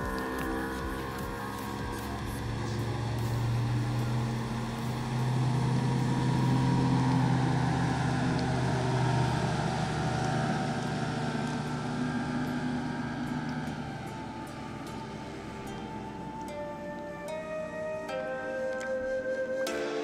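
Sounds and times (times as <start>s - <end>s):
water rushing off hull: 0.0s - 18.4s
outboard motor at high speed: 0.0s - 19.4s.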